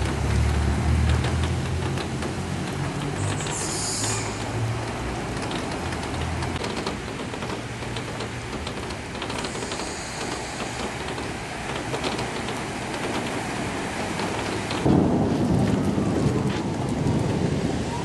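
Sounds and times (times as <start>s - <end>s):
cars splashing through water: 0.0s - 6.6s, 7.6s - 18.0s
steady rain: 0.0s - 18.0s.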